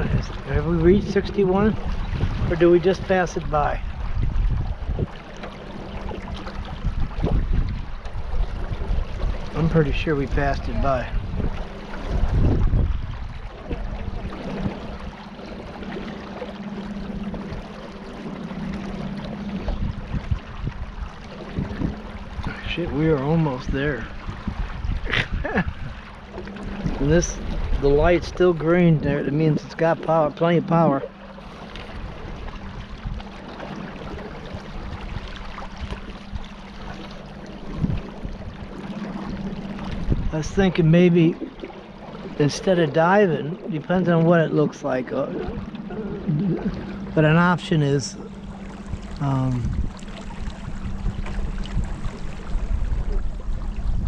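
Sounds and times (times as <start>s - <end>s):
boat motor humming: 0.0s - 54.0s
water rushing: 0.0s - 54.0s
wind buffeting microphone: 0.0s - 54.0s.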